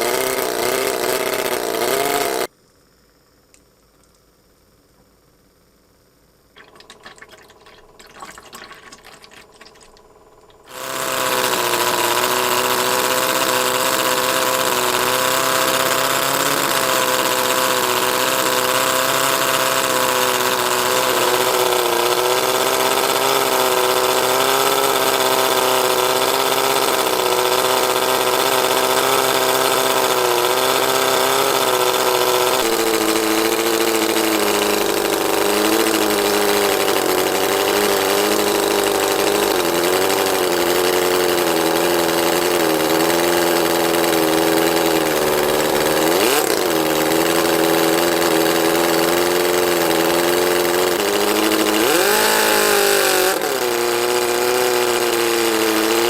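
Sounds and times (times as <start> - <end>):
model engine running high-pitched: 0.0 - 2.5, 6.6 - 56.0.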